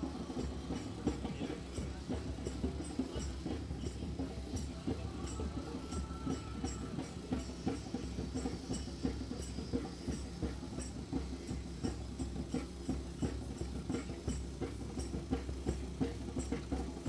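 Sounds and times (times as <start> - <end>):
quick even drumbeat: 0.0 - 17.0.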